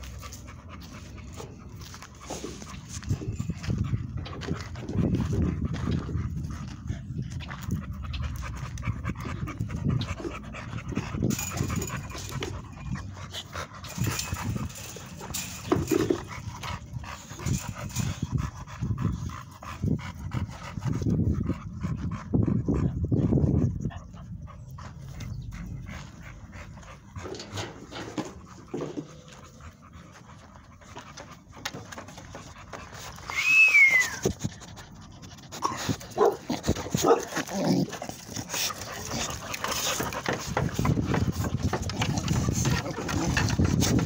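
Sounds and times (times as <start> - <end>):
puppies panting: 0.0 - 44.0.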